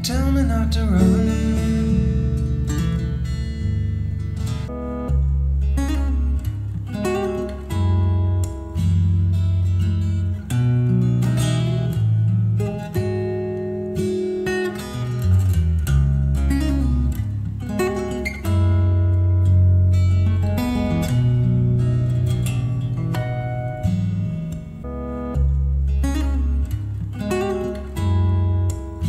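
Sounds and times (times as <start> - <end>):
deep held bass notes: 0.0 - 14.4, 15.2 - 29.0
acoustic guitar strumming and picking: 0.0 - 29.0.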